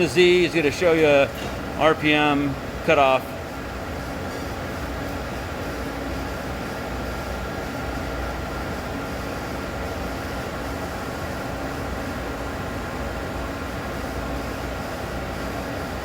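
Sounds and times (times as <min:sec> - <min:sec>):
lathe spindle hum and whine: 0:00.0 - 0:16.0.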